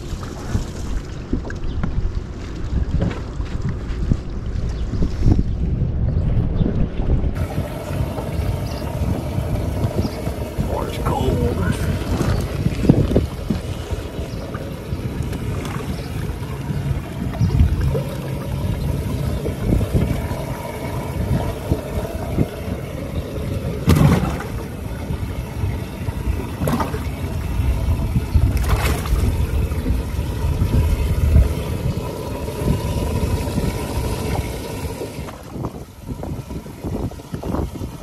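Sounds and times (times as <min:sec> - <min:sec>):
water sloshing and trickling: 0:00.0 - 0:05.6, 0:06.9 - 0:38.0
low steady rumble: 0:00.0 - 0:38.0.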